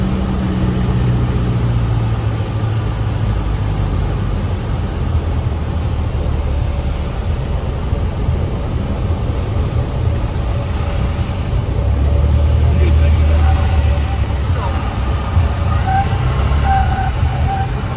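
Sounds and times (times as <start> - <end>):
airplane engine droning: 0.0 - 17.9.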